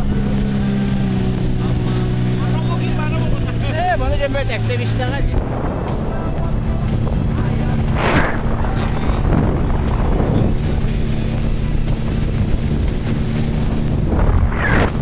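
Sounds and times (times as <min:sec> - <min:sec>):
outboard motor running: 0:00.0 - 0:15.0
water rushing past hull: 0:00.0 - 0:15.0
wind buffeting microphone: 0:00.0 - 0:15.0.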